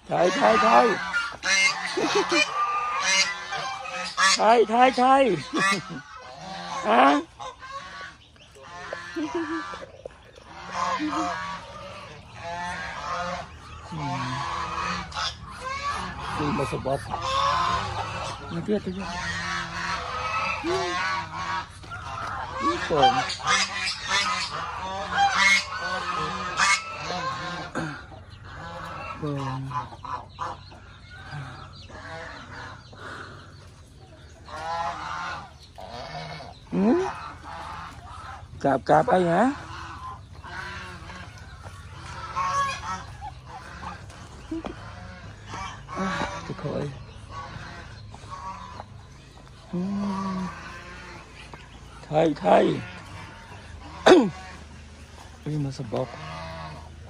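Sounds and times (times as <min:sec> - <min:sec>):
ducks quacking: 0:00.0 - 0:57.0.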